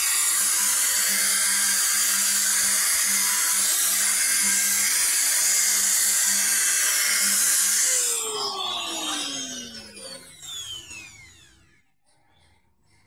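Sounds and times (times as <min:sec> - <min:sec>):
drill motor hum: 0:00.0 - 0:11.9.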